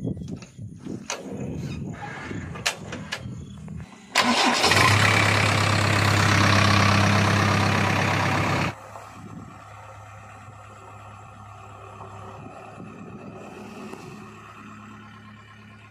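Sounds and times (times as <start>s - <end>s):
diesel engine starting and running: 0.9s - 15.9s.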